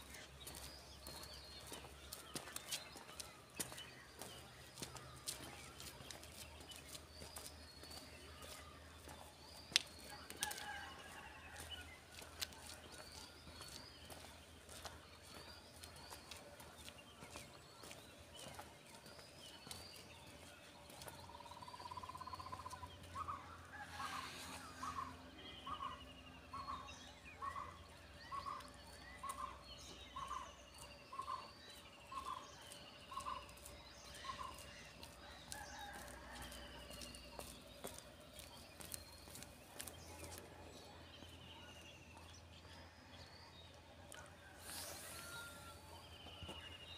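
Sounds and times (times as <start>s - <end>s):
birds chirping and trilling: 0.0s - 46.9s.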